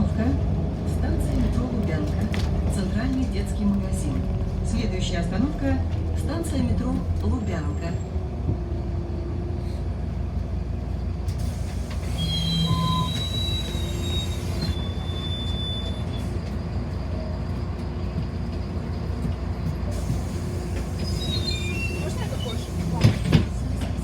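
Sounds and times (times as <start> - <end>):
bus ride rumble: 0.0 - 24.0.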